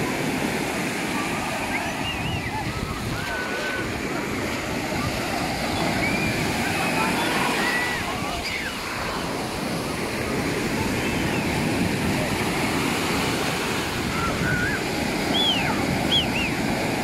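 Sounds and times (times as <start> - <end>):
waves breaking on sandy beach: 0.0 - 17.0.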